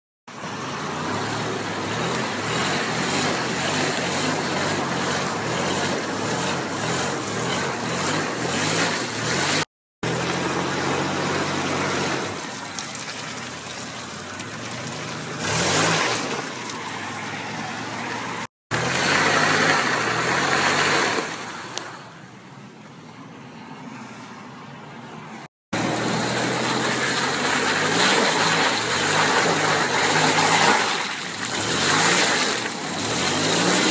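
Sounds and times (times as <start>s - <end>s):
tyres churning through mud: 0.3s - 22.3s, 25.4s - 33.9s
engine running under load: 0.3s - 22.4s, 25.7s - 33.9s.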